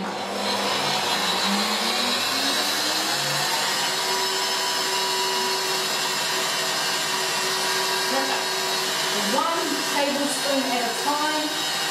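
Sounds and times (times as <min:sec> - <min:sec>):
electric stand mixer whisking: 0:00.0 - 0:11.9.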